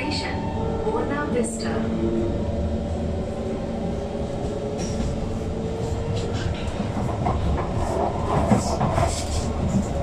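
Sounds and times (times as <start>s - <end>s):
low rumble of train car: 0.0s - 10.0s.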